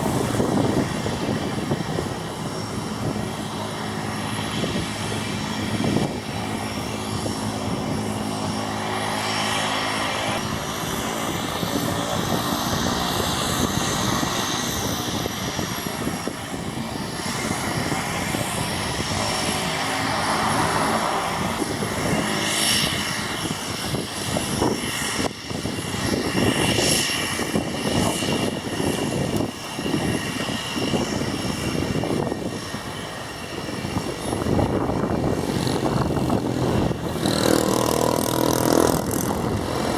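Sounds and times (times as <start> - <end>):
high turbine whine: 0.0 - 39.9
propeller noise: 0.0 - 39.9
turboprop engine running: 0.0 - 39.9.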